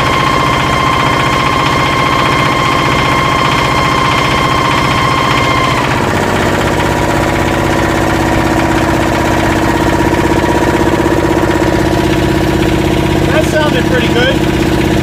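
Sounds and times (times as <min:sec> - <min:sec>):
marine diesel engine running: 0:00.0 - 0:15.0.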